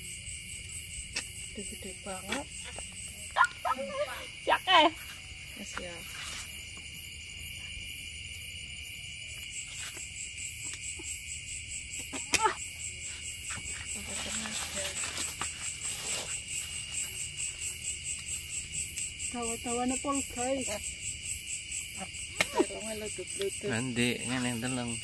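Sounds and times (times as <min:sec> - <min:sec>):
crickets chirring: 0:00.0 - 0:25.0
pulsing high insect call: 0:00.0 - 0:25.0.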